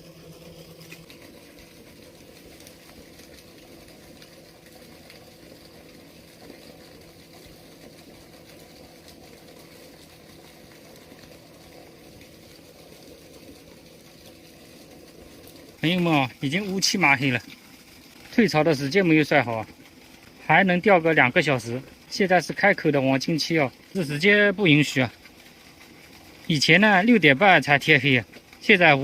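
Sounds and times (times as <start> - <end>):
water rushing through sluice gate: 0.0 - 29.0.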